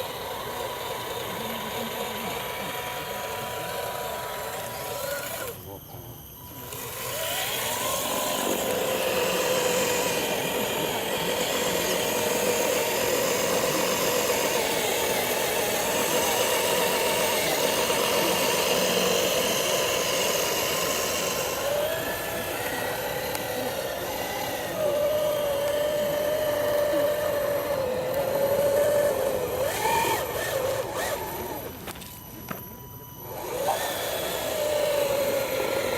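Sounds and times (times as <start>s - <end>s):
remote-control truck motor whining: 0.0s - 35.9s.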